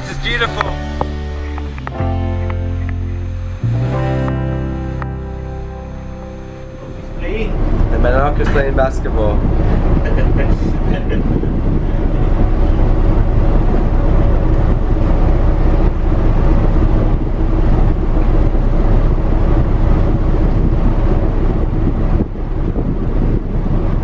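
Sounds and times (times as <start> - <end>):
ship engine droning: 0.0 - 21.5.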